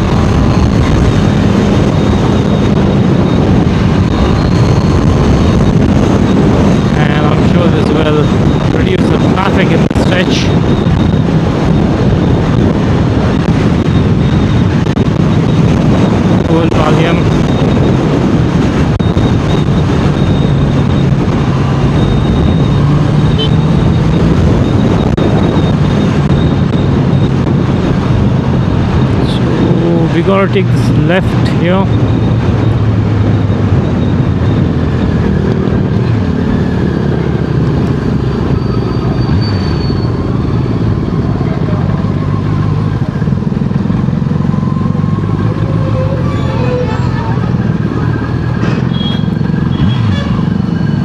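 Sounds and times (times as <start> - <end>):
motorcycle engine cruising: 0.0 - 51.0
rush of riding wind: 0.0 - 51.0.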